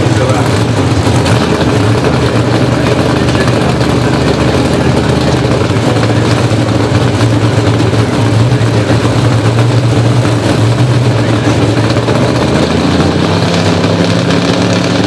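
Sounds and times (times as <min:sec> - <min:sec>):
drag car engines idling: 0:00.0 - 0:15.0.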